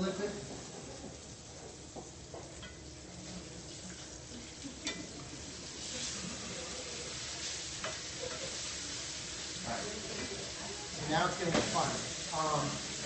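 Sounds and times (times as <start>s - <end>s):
steak sizzling in skillet: 0.0s - 13.0s.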